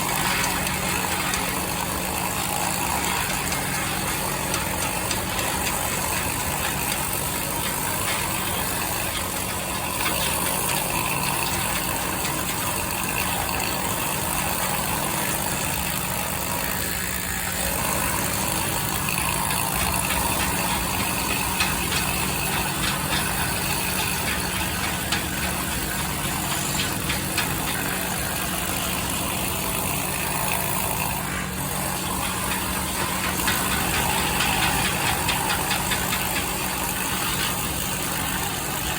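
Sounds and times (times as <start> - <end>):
engine idling hum: 0.0 - 16.6, 17.4 - 38.9.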